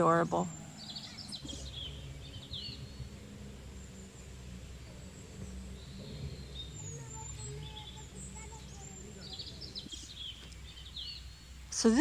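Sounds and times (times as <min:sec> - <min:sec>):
bird chirps: 0:00.0 - 0:12.0
faint high-pitched whine: 0:00.0 - 0:12.0
low steady rumble: 0:00.0 - 0:12.0.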